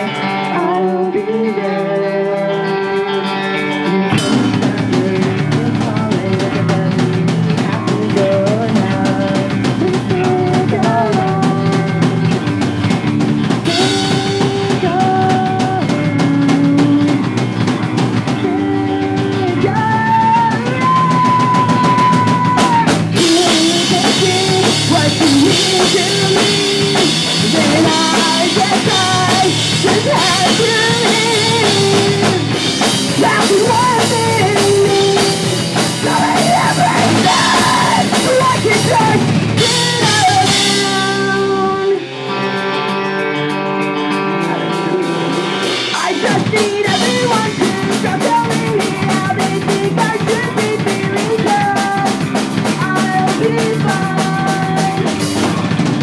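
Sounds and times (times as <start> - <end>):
person singing: 0.0 - 56.0
pop punk band playing live: 0.0 - 56.0.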